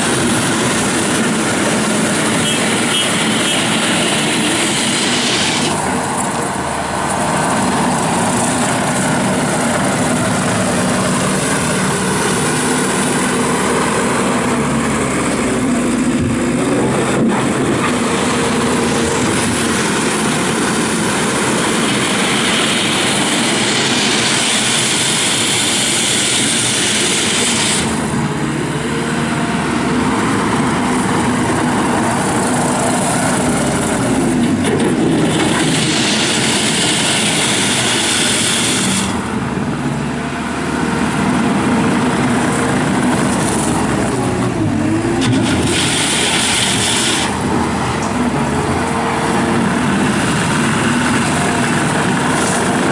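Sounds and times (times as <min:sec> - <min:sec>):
skid steer diesel engine: 0:00.0 - 0:52.9.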